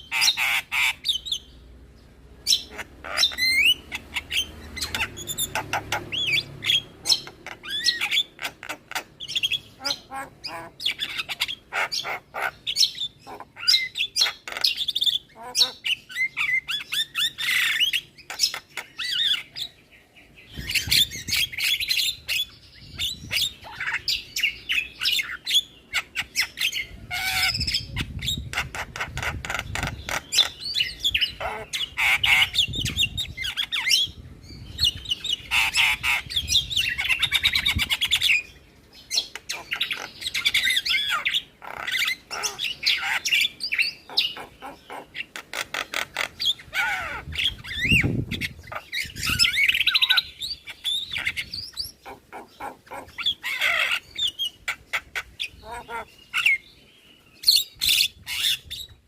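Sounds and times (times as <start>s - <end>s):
mynas singing chirps and squawks: 0.0s - 1.6s, 2.4s - 19.9s, 20.5s - 56.8s, 57.4s - 59.0s.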